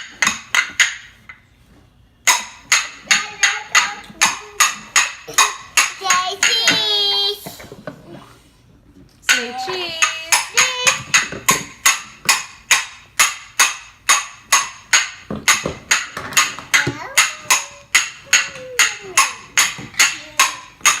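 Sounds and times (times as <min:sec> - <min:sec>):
rhythmic banging in a kitchen: 0:00.0 - 0:21.0.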